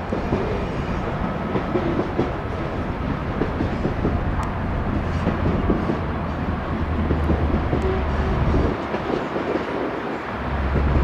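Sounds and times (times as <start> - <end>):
diesel locomotive drone: 0.0 - 11.0
train wheels clattering on rails: 0.0 - 11.0.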